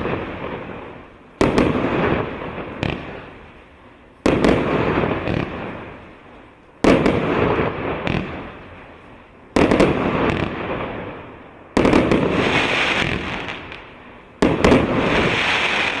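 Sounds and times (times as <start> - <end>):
firework bangs: 0.0 - 3.6, 4.2 - 16.0
firework crackle and rumble: 0.0 - 16.0.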